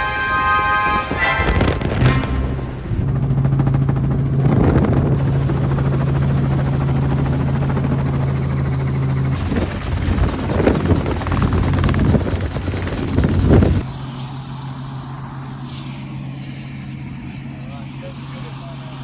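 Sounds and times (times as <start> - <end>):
helicopter in flight: 0.0 - 19.0.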